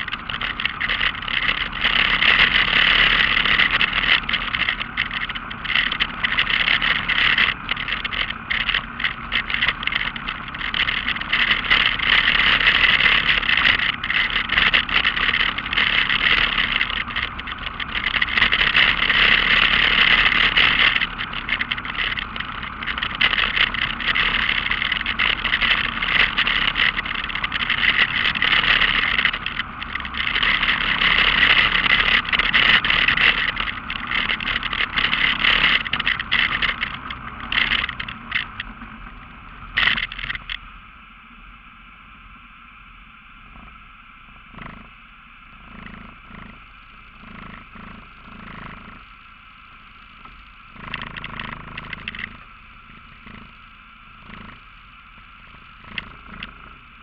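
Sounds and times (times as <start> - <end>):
off-road vehicle engine: 0.0 - 57.0.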